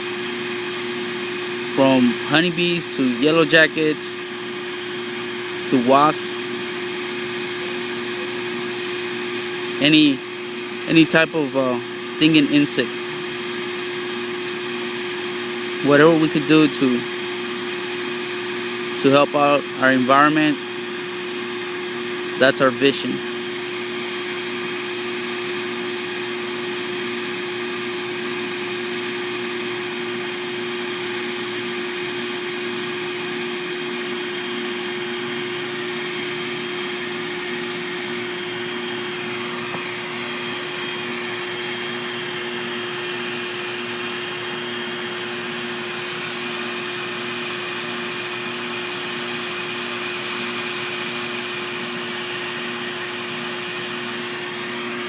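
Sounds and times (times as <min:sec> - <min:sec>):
vacuum motor humming: 0:00.0 - 0:55.0.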